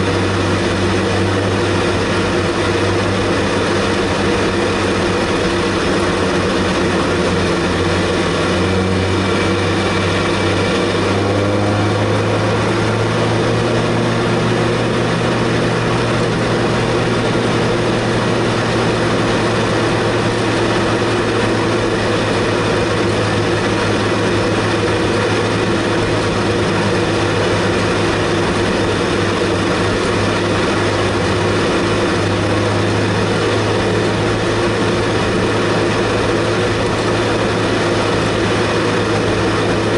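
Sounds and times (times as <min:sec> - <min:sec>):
race car engine running: 0:00.0 - 0:39.9
tyre and road noise: 0:00.0 - 0:39.9.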